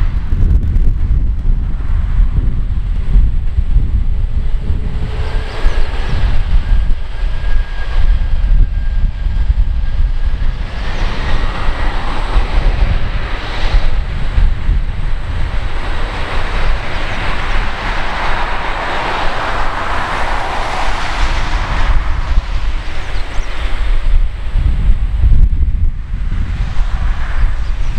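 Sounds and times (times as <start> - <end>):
deep rumble: 0.0 - 27.9
jet engines roaring: 0.0 - 27.9.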